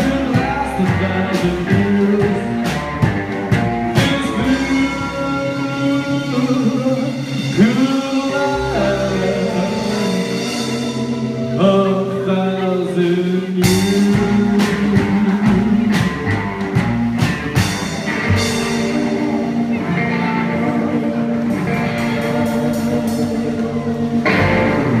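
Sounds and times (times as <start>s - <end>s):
person singing: 0.0s - 16.8s, 17.6s - 25.0s
drums and cymbals: 0.0s - 25.0s
hollow-body electric guitar: 0.0s - 25.0s
upright bass: 0.0s - 25.0s.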